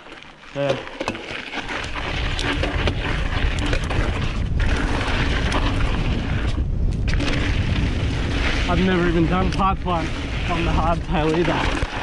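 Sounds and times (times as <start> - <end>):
bike tyre noise: 0.0 - 12.0
wind rumbling on microphone: 1.4 - 12.0.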